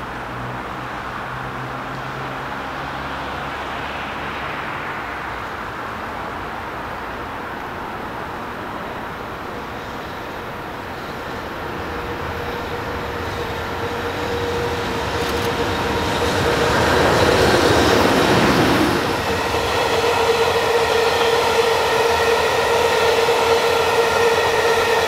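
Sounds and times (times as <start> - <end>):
locomotive passing: 0.2 - 25.0.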